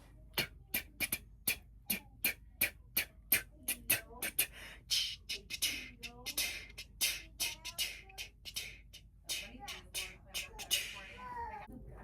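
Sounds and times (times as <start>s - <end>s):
beatboxing clicks and pops: 0.4s - 11.0s
hissing cymbal-like mouth sounds: 0.4s - 11.3s.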